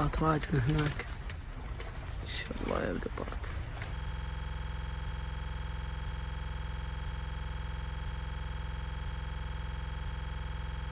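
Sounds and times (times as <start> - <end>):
electronic buzz with low hum: 0.0 - 10.9.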